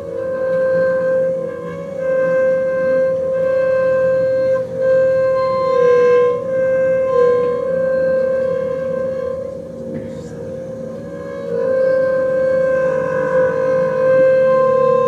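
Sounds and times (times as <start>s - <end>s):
double bass bowed note: 0.0s - 15.0s.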